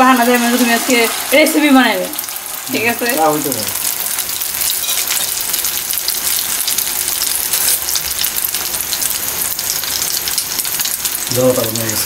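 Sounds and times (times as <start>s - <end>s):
omelette sizzling in oil: 0.0s - 12.0s.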